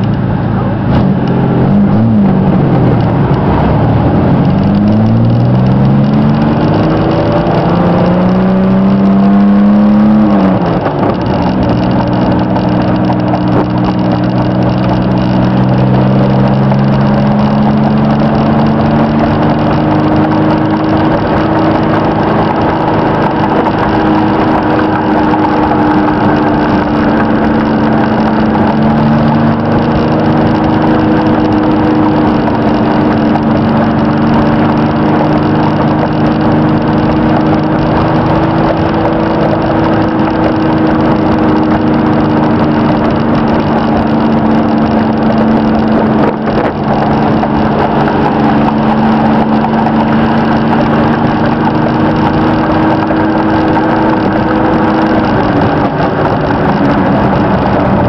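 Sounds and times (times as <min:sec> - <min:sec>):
car engine revving while driving: 0:00.0 - 0:58.0
road noise: 0:00.0 - 0:58.0.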